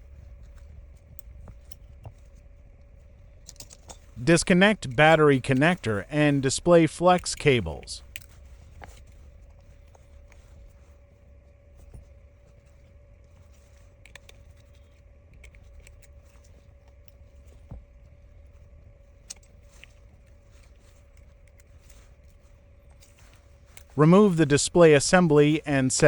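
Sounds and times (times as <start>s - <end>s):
faint steady whine: 0.0s - 26.0s
steady low hum: 0.0s - 26.0s.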